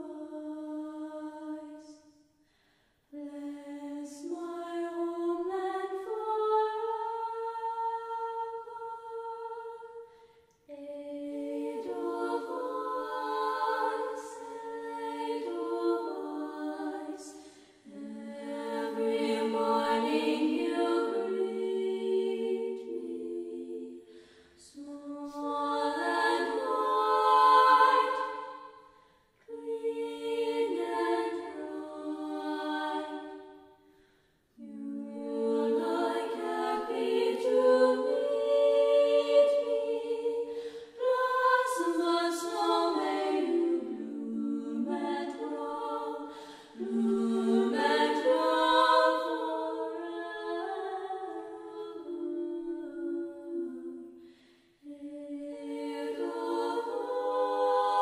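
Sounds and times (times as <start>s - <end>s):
voices singing a cappella: 0.0s - 58.0s.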